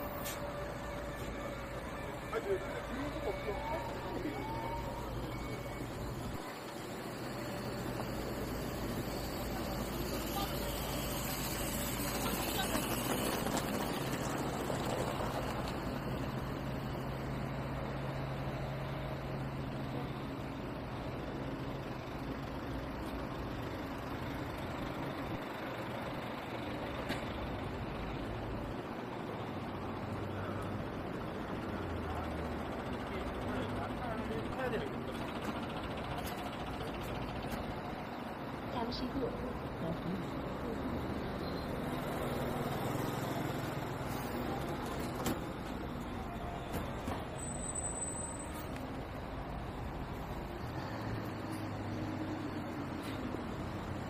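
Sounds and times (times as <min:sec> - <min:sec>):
city street traffic: 0:00.0 - 0:54.0.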